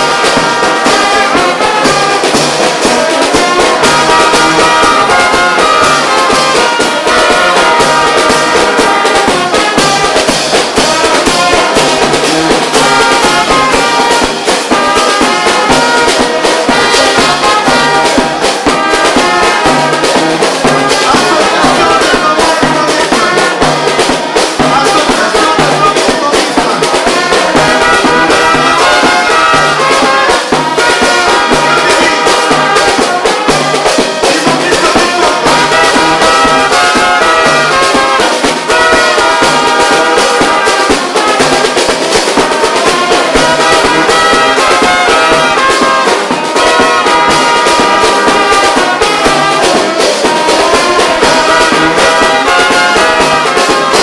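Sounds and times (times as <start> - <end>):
brass band playing dance music: 0.0 - 54.0.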